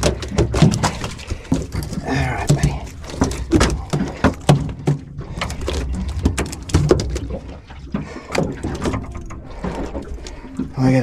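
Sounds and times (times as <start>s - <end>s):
fish thrashing on boat deck: 0.0s - 10.8s.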